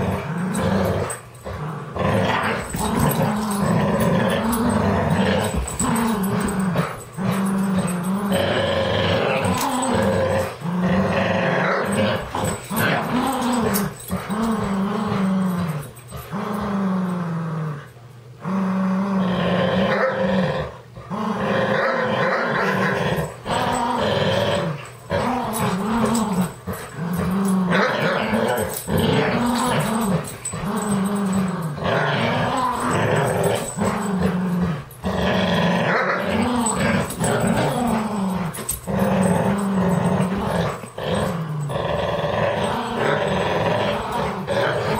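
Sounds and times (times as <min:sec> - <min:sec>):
dogs growling in play: 0:00.0 - 0:44.9.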